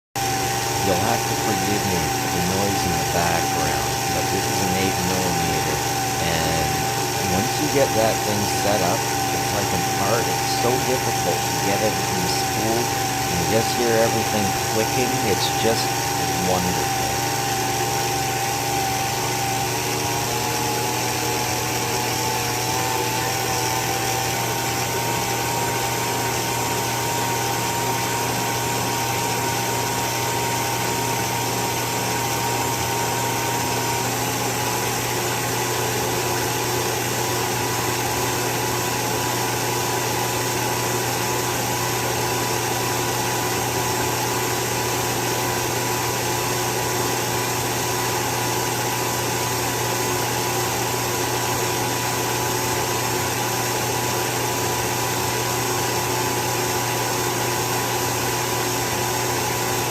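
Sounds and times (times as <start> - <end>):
film projector motor hum and whine: 0.2 - 59.9.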